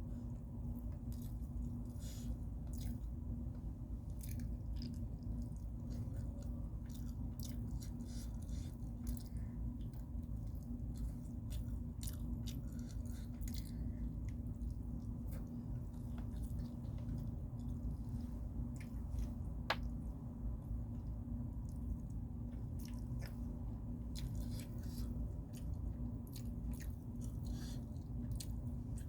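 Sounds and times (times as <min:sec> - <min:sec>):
chewing and crunching food: 0:00.0 - 0:29.0
steady low hum: 0:00.0 - 0:29.0.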